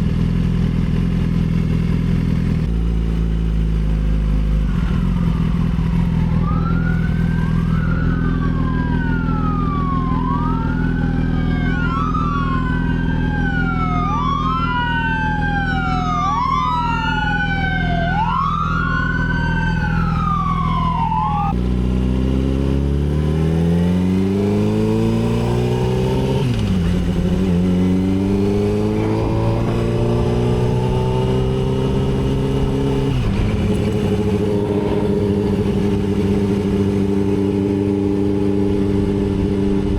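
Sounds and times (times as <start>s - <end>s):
motorcycle engine: 0.0s - 39.9s
emergency siren wailing: 4.6s - 21.6s, 24.0s - 39.9s.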